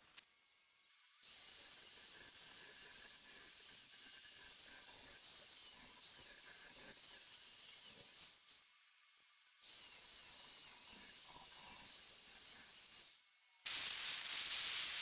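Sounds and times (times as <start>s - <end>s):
plasma cutter hissing: 1.2s - 8.6s, 9.6s - 15.0s.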